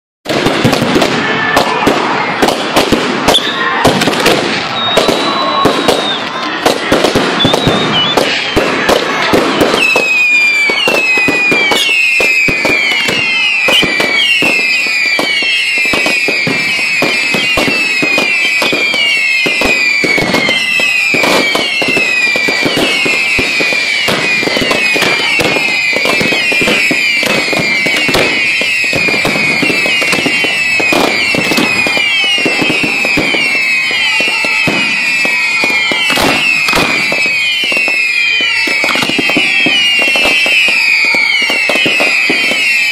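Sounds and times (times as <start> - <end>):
fireworks crackling pops: 0.3 - 42.9
fireworks whistles dropping in pitch: 0.3 - 42.9.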